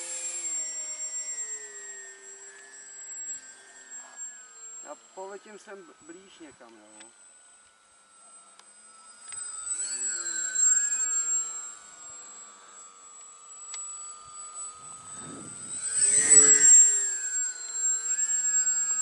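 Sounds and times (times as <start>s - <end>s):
model plane motor whining: 0.0s - 19.0s.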